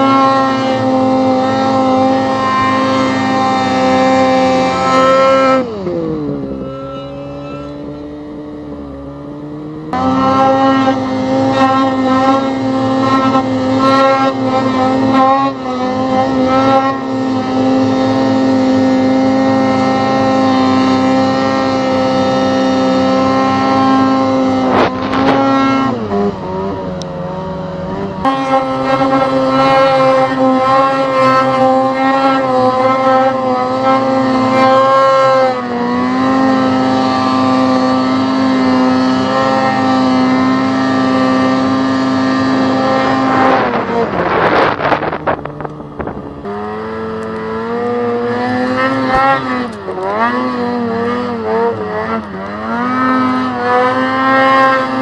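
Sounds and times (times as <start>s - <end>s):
snowmobile engine at high revs: 0.0s - 55.0s.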